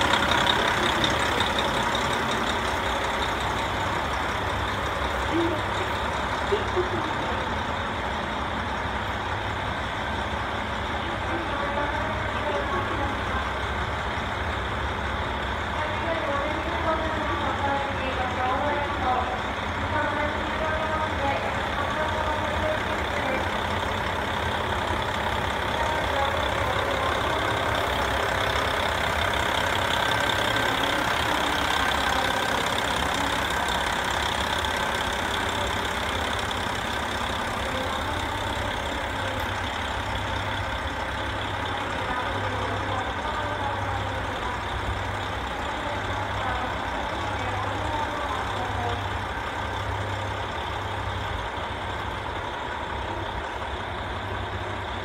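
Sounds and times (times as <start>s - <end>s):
diesel railcar engines idling: 0.0s - 55.0s.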